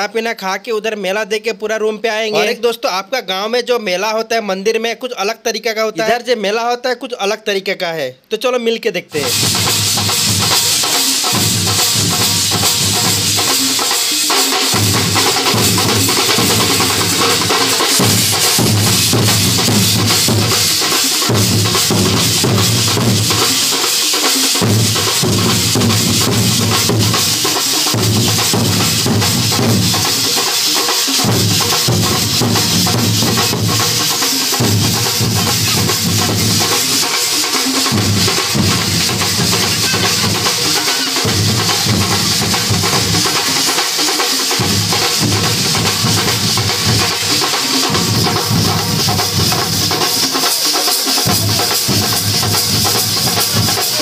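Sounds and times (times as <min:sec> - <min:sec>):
loud drum-driven music: 0:02.3 - 0:02.6, 0:09.1 - 0:54.0.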